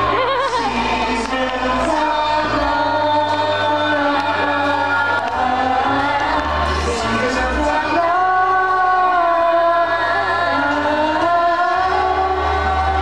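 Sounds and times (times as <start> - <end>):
choir singing long notes: 0.0 - 13.0
music with bass line: 0.0 - 13.0.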